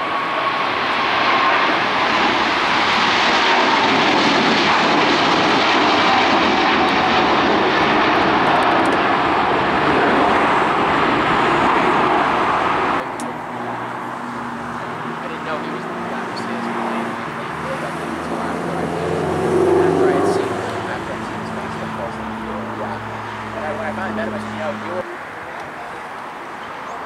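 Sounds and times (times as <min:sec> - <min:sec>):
jet engines at takeoff: 0:00.0 - 0:27.0.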